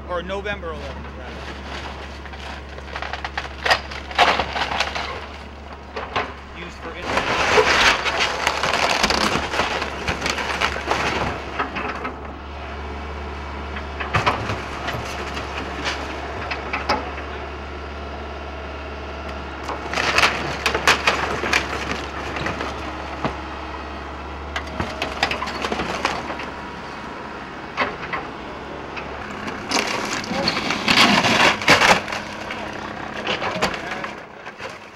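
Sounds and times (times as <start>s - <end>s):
low engine hum: 0.0s - 34.9s
building cracking and crunching: 0.4s - 12.8s, 13.6s - 17.6s, 19.2s - 34.9s.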